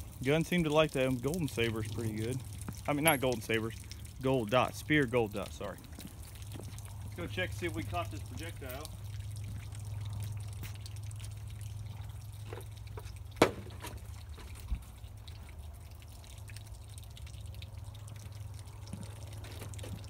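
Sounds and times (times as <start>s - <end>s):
water trickling and dripping: 0.0s - 20.0s.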